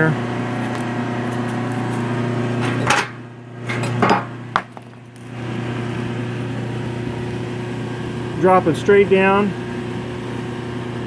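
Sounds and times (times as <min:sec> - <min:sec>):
motor-driven feeder humming: 0:00.0 - 0:11.0.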